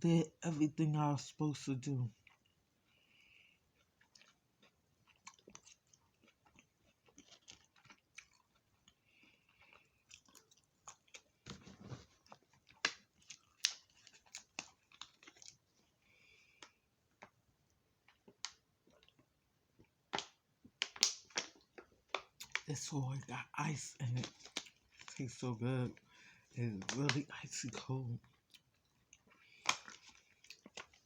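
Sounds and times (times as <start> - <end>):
person chewing food: 2.1 - 23.0, 24.0 - 31.0
food crunches: 2.2 - 17.4, 18.0 - 23.0, 24.0 - 25.4, 26.6 - 31.0.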